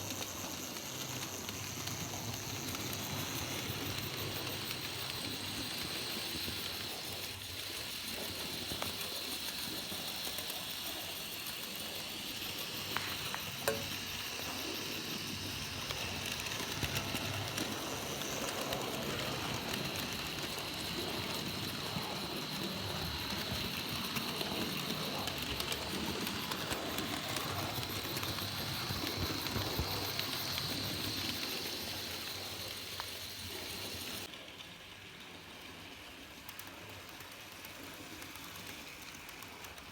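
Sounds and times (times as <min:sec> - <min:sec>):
model locomotive whirring on track: 0:00.0 - 0:39.9.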